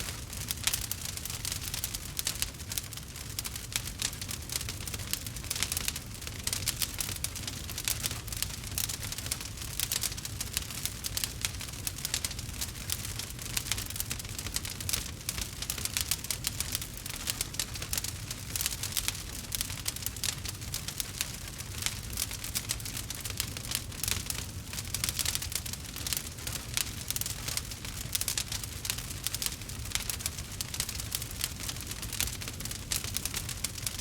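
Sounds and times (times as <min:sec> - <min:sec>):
campfire crackling and popping: 0:00.0 - 0:34.0
low rumble of flame: 0:00.0 - 0:34.0.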